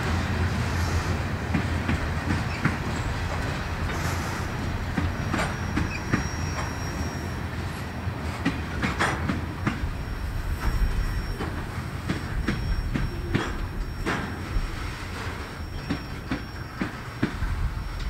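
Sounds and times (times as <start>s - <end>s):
freight train rumbling past: 0.0s - 18.0s
faint high wheel squeal: 2.3s - 18.0s.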